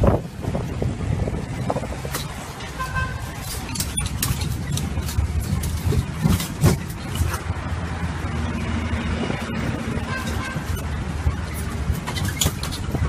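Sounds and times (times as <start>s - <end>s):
bus passing close by: 0.0s - 13.0s
engine and road rumble: 0.0s - 13.0s.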